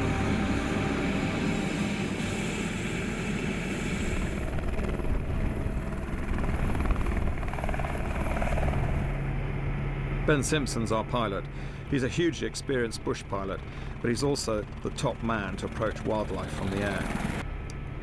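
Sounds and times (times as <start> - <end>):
helicopter rotor and engine: 0.0 - 18.0
low helicopter cabin drone: 0.0 - 18.0.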